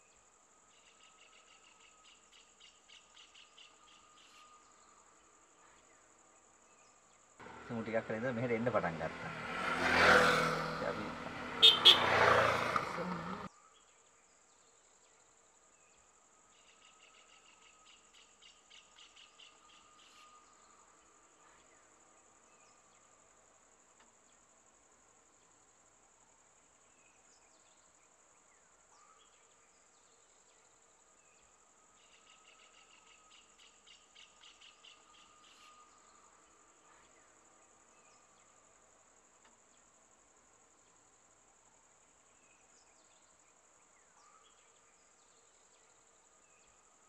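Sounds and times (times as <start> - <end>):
rapid pulsing insect call: 0.0 - 47.0.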